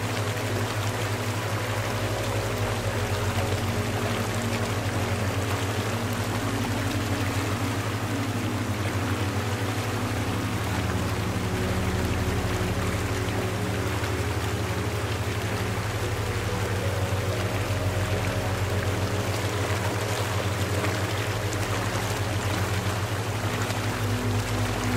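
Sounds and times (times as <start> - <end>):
low synth drone: 0.0 - 24.9.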